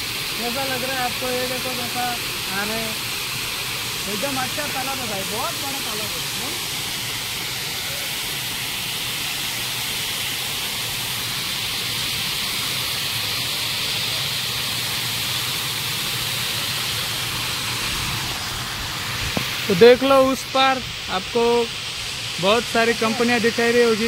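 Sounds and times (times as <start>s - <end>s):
water rushing over weir: 0.0s - 24.0s.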